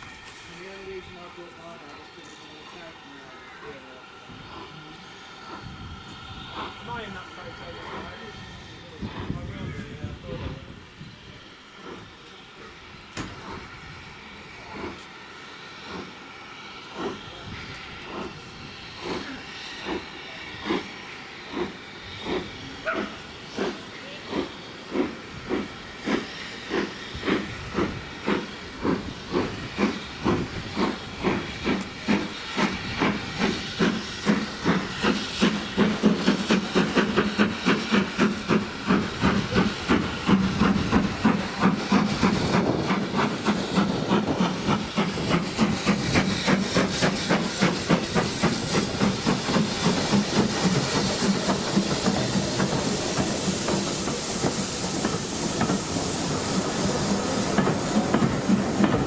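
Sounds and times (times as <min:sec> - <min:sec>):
steam hissing: 0:00.0 - 0:59.0
steam locomotive chuffing: 0:00.0 - 0:59.0.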